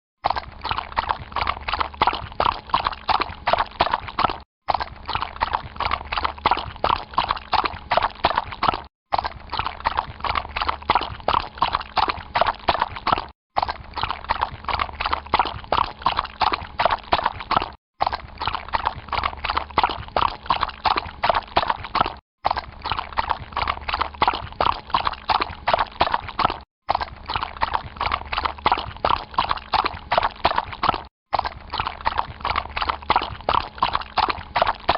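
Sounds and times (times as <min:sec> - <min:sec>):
horse hooves splashing in water: 0:00.2 - 0:34.9.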